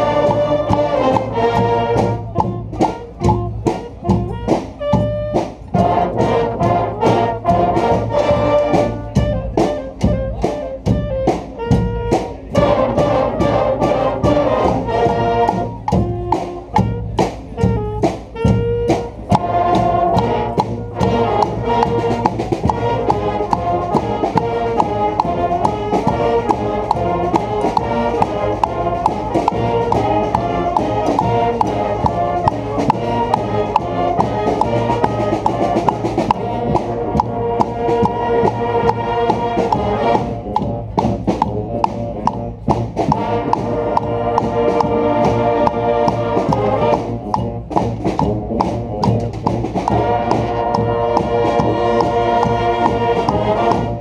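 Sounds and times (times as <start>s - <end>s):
brass band playing: 0.0s - 54.0s
drums keeping a beat: 0.0s - 54.0s.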